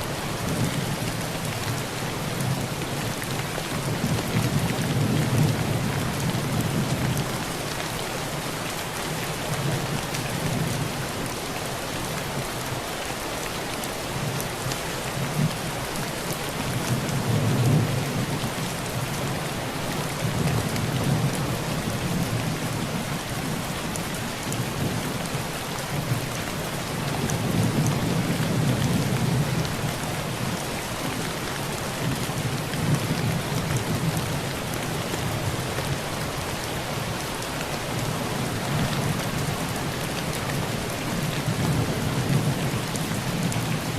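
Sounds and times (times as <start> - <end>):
heavy rain on a tin roof: 0.0 - 43.9.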